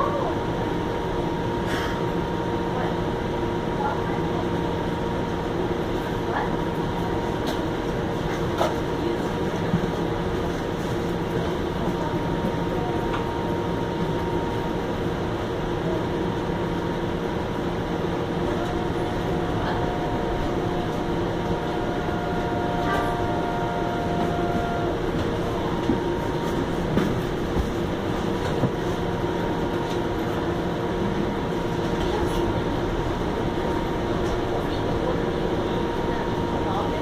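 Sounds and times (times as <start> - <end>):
streetcar interior rumble: 0.0 - 37.0.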